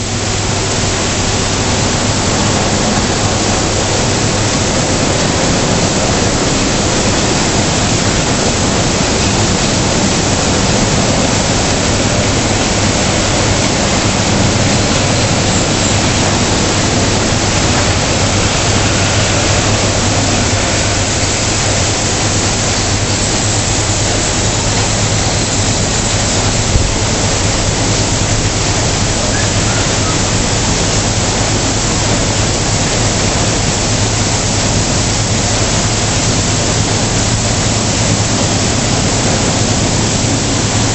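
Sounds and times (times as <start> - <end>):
low machine hum: 0.0 - 40.9
water spray rushing: 0.0 - 40.9.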